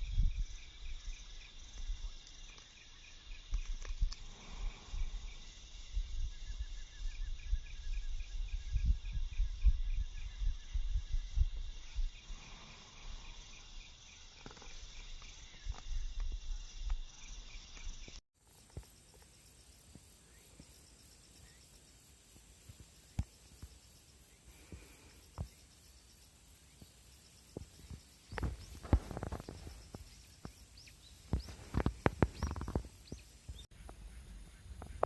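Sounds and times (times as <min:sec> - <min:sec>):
insects chirping in trills: 0:00.0 - 0:35.0.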